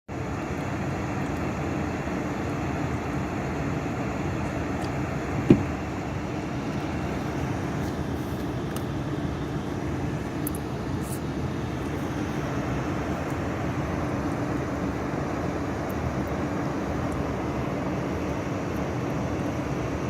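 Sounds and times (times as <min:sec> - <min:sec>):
vehicle idling rumble: 0:00.1 - 0:20.0.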